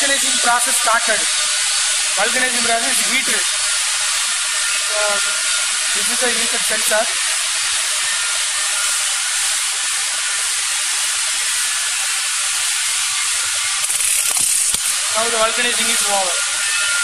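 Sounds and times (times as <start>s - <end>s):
compressed air hissing: 0.0s - 17.0s.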